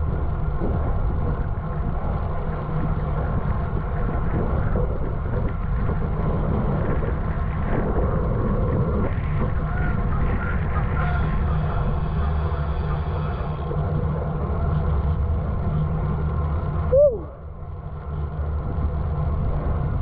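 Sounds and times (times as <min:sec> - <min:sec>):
low road rumble: 0:00.0 - 0:20.0
wind rushing over microphone: 0:00.0 - 0:20.0.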